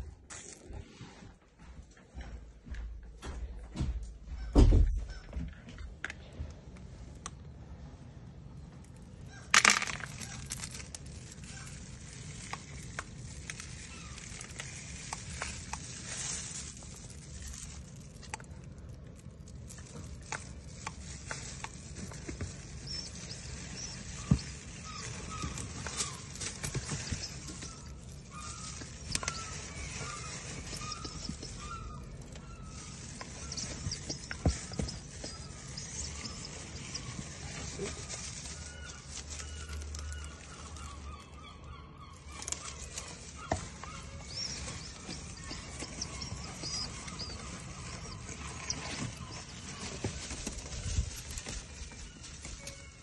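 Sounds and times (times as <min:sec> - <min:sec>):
rustling paper bedding: 0:00.0 - 0:01.7, 0:08.8 - 0:41.1, 0:42.2 - 0:53.0.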